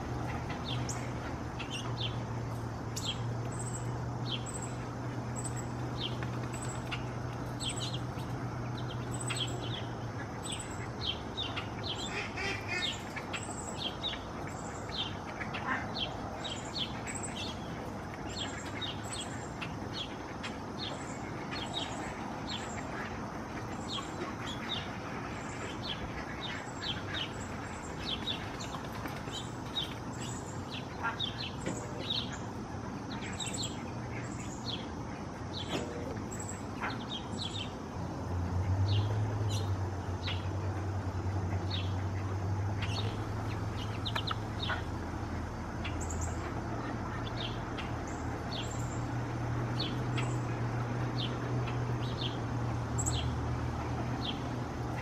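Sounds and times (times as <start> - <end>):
birds chirping: 0.0 - 55.0
outdoor background hiss: 0.0 - 55.0.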